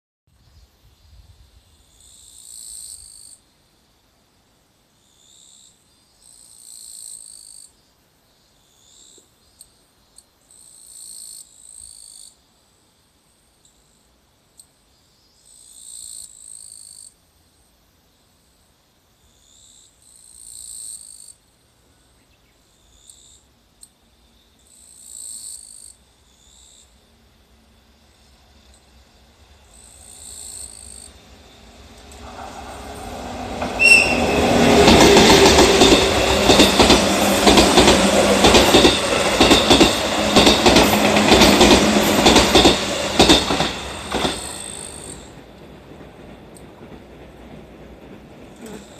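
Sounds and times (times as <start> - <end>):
insects calling: 0.4 - 48.9.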